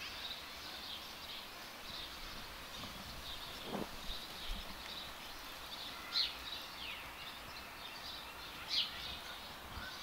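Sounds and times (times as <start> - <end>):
small birds chirping: 0.0 - 10.0
steady background hiss: 0.0 - 10.0.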